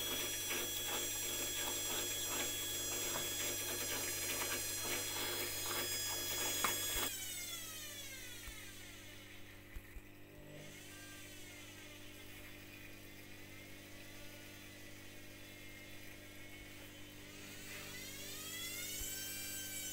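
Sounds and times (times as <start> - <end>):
washing machine motor whining: 0.0 - 19.9.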